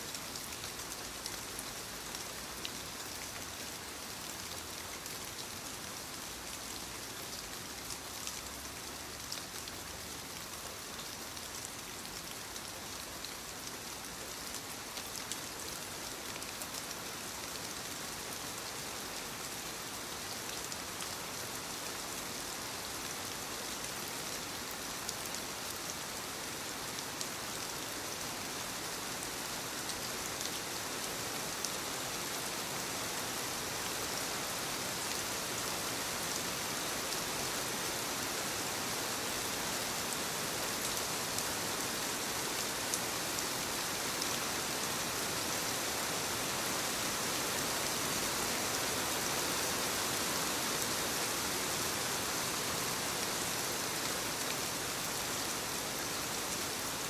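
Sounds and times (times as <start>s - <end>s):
light rain on leaves: 0.0s - 57.0s.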